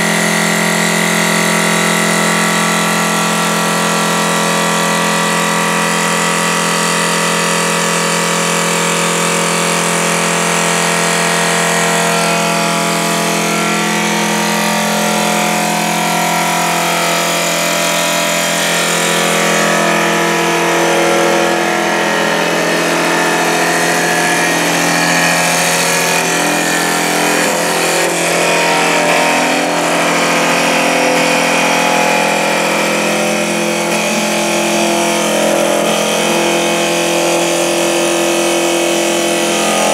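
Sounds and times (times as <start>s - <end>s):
cutter shaping wood: 0.0s - 39.9s
lathe motor and spindle whine: 0.0s - 39.9s.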